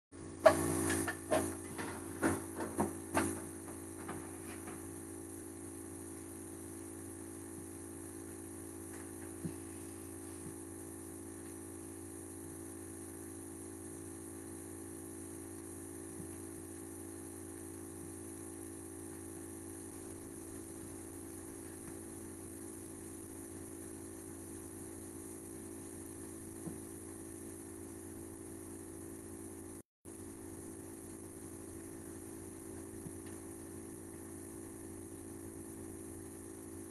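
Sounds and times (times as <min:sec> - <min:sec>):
kitchen appliance humming: 0:00.1 - 0:36.9.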